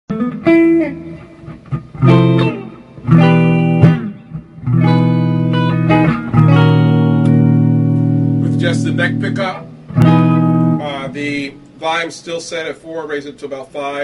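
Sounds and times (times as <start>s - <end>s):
clean electric guitar chords: 0.1s - 11.8s.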